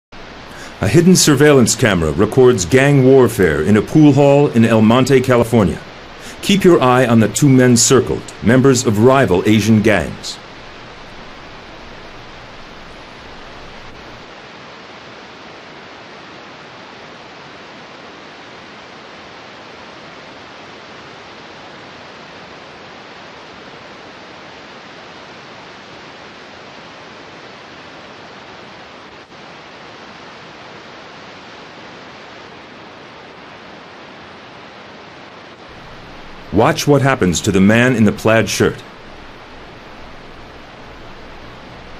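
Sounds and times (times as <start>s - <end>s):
recording hiss: 0.1s - 41.9s.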